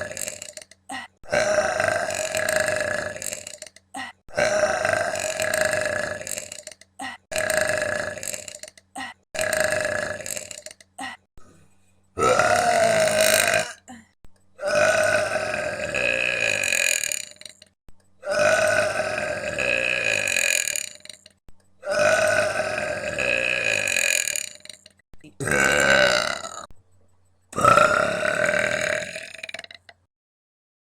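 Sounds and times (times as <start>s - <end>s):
woman belching: 0.0s - 11.3s, 12.2s - 17.6s, 18.2s - 21.2s, 21.8s - 26.7s, 27.6s - 30.0s.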